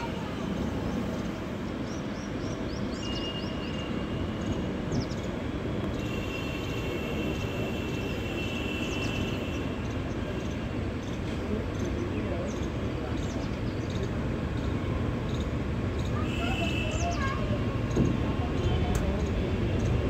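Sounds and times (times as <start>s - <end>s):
train rumbling slowly: 0.0s - 7.7s, 9.5s - 20.0s.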